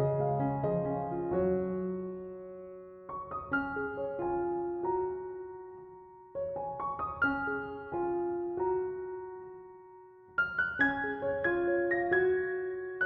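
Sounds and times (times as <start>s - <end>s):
soft piano chords: 0.0s - 13.0s.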